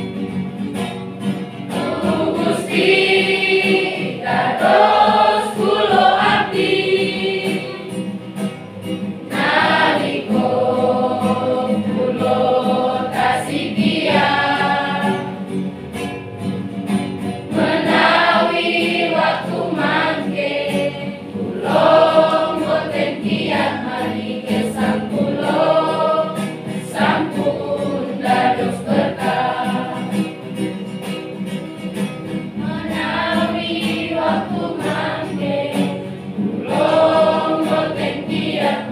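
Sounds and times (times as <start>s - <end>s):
children's choir singing: 1.7s - 8.3s, 9.0s - 15.7s, 17.4s - 30.6s, 32.5s - 38.9s.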